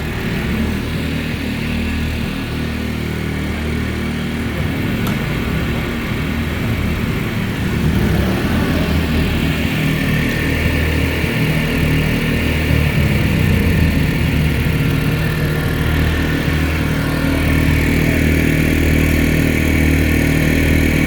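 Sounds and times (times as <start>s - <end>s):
generator engine hum: 0.0s - 21.0s.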